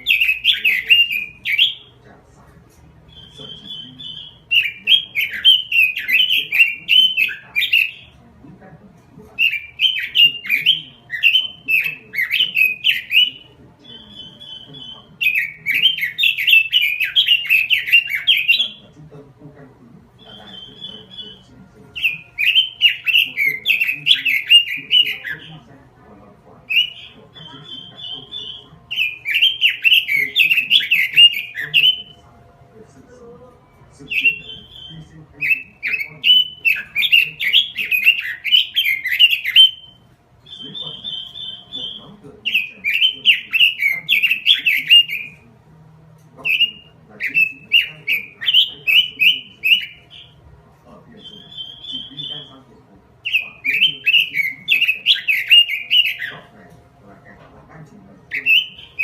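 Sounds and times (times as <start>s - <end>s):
high trilled bird calls: 0.0s - 2.0s, 3.0s - 8.2s, 9.4s - 19.0s, 20.2s - 25.7s, 26.6s - 32.2s, 33.7s - 45.5s, 46.4s - 50.4s, 51.1s - 56.8s, 58.2s - 59.0s
bird warbling song: 0.0s - 8.3s, 9.2s - 33.0s, 33.6s - 45.5s, 46.2s - 59.0s.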